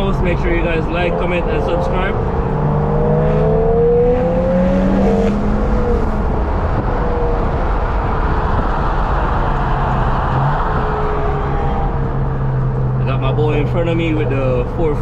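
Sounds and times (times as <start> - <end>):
car engine revving: 0.0 - 14.8
road noise: 0.0 - 15.0.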